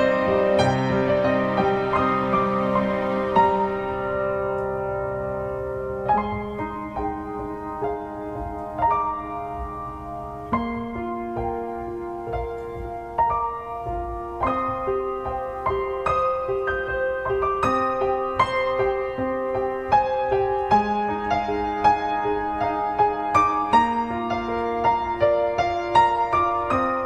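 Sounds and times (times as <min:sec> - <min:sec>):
gentle piano piece: 0:00.0 - 0:27.0.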